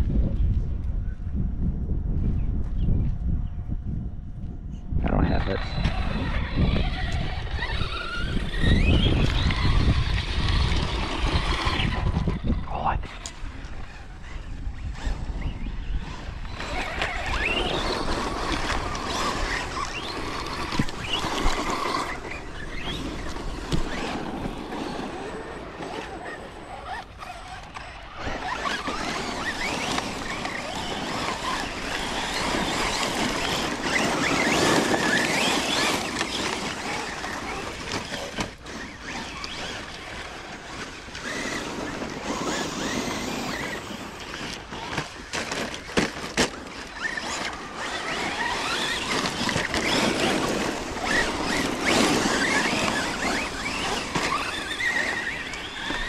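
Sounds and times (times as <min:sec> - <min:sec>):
tyre and dirt noise: 0:00.0 - 0:56.0
electric motors whining: 0:05.0 - 0:56.0.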